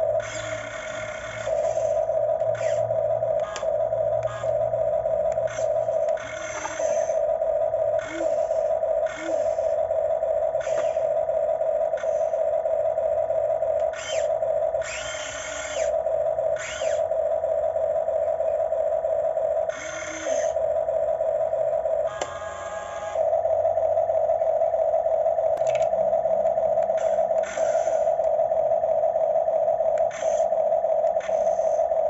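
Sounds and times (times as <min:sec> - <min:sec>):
electric motors humming: 0:00.0 - 0:32.0
motor whine rising and falling: 0:00.0 - 0:32.0.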